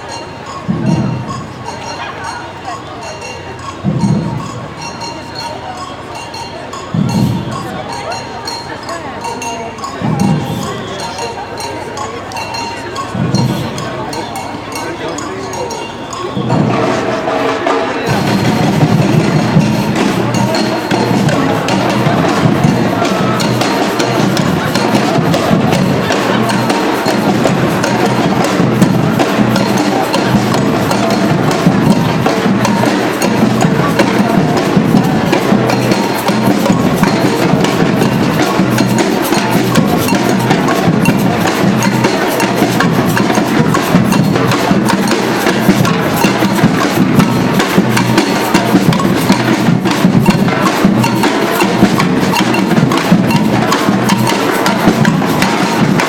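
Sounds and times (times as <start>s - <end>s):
percussion band drumming: 0.0s - 56.0s.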